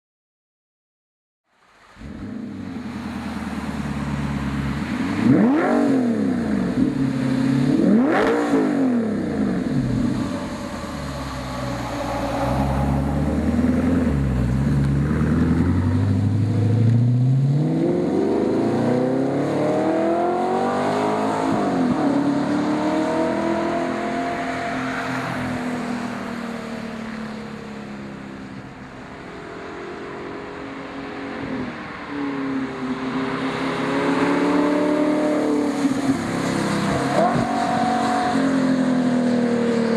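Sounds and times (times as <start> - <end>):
car engine revving: 2.0 - 39.9.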